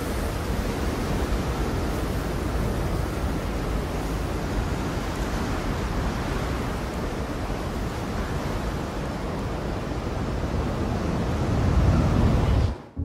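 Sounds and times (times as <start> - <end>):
strong storm wind blowing: 0.0 - 13.0.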